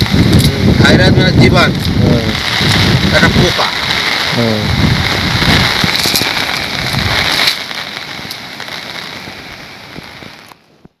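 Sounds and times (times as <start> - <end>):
rain falling: 0.0 - 10.9.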